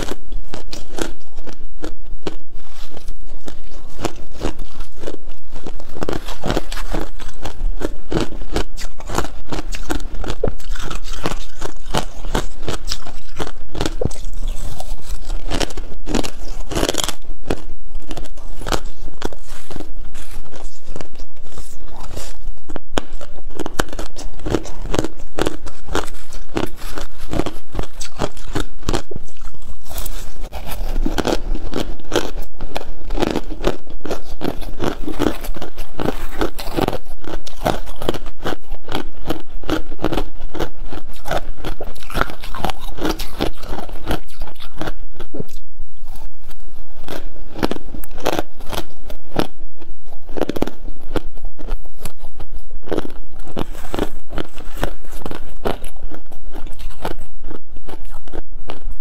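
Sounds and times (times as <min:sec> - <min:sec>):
chewing frost crunching: 0:00.0 - 0:59.0.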